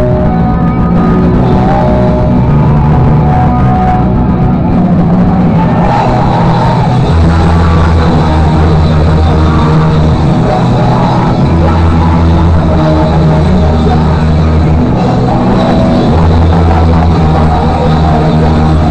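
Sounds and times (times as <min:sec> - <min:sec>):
live rock band playing loud: 0:00.0 - 0:18.9
long held low bass notes: 0:00.0 - 0:18.9.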